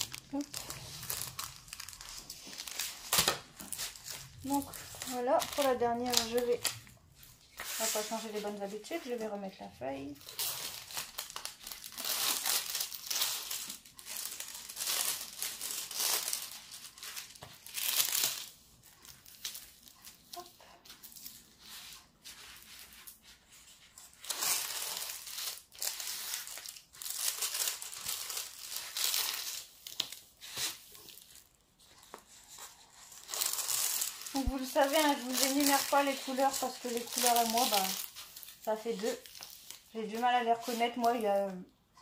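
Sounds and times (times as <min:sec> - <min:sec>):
plastic film crinkling: 0:00.0 - 0:41.7.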